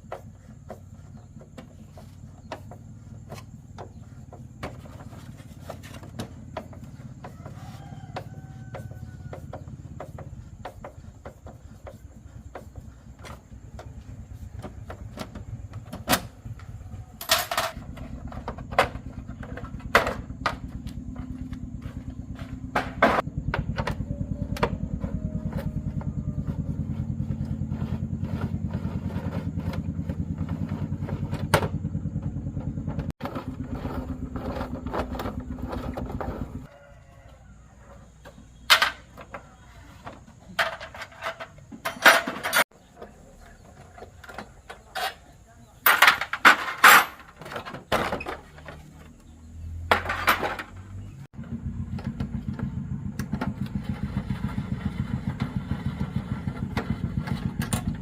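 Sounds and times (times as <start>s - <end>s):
motorcycle engine running: 0.0s - 36.7s, 48.2s - 58.0s.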